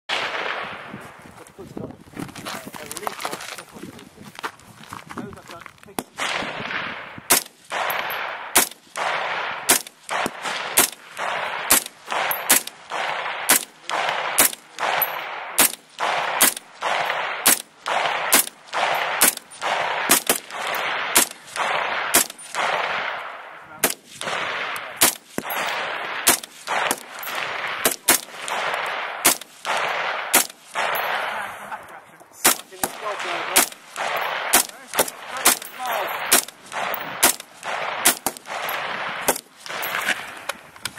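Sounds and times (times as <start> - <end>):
rifle single shots with echo: 0.1 - 1.1, 5.9 - 31.8, 32.4 - 40.6.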